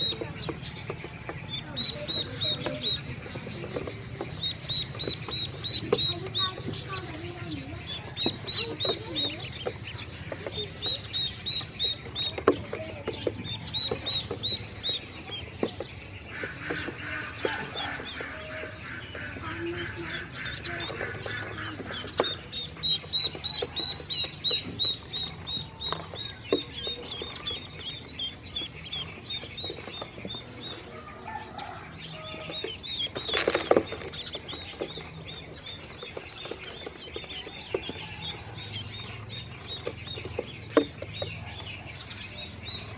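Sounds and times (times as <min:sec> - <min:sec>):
ducklings peeping: 0:00.0 - 0:42.9.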